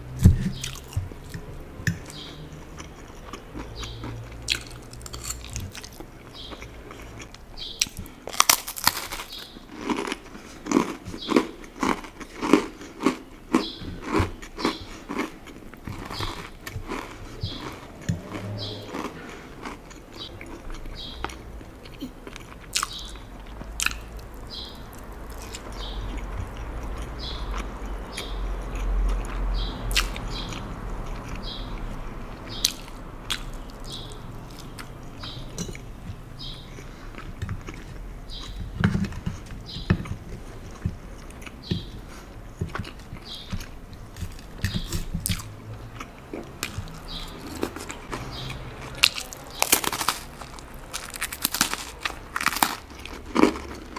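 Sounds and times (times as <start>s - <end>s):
close-miked chewing: 0.1s - 53.9s.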